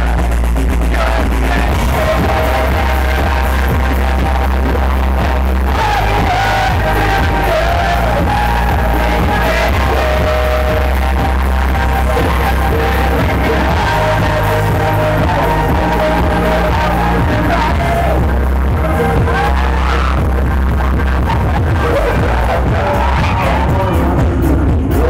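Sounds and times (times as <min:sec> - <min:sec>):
distorted bass: 0:00.0 - 0:25.0
live electronic rock band: 0:00.0 - 0:25.0
person singing: 0:00.0 - 0:25.0.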